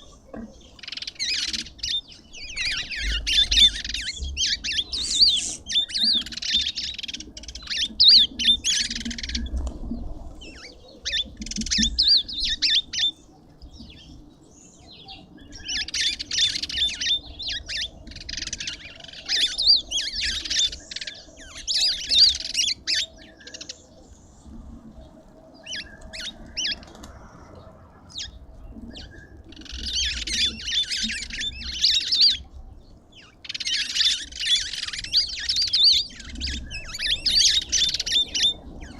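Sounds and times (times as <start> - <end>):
birds squawking and chattering: 0.0 - 38.9.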